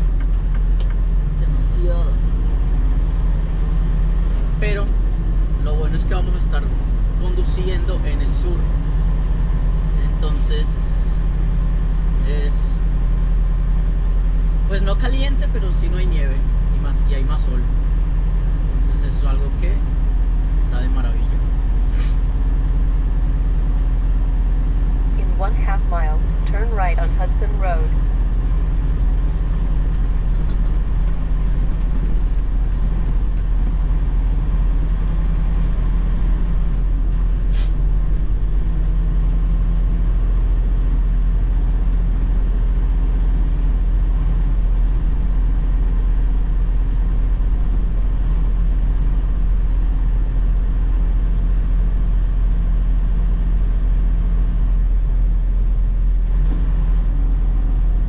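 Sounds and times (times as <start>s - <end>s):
diesel truck engine: 0.0s - 58.0s
road rumble: 0.0s - 58.0s.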